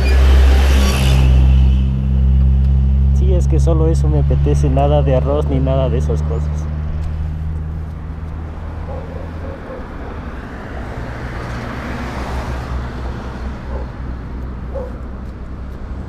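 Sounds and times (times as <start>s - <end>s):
low engine hum: 0.0s - 16.0s
vehicle passing by: 0.0s - 16.0s.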